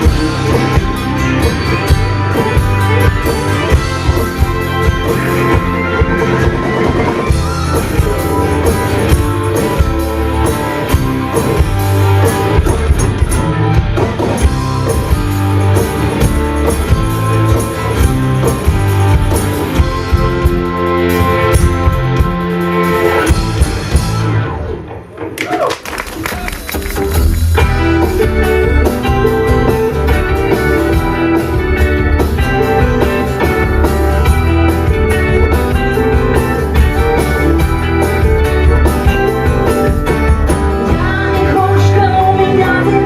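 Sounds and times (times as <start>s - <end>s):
rock band playing live: 0.0s - 43.0s.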